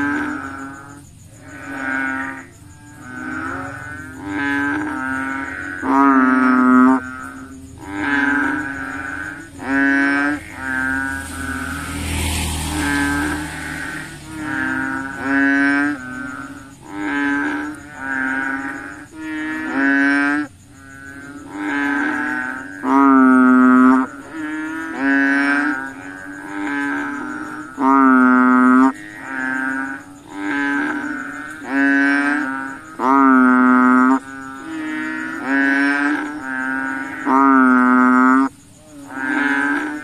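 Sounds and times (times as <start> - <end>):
frogs calling: 0.0 - 40.0.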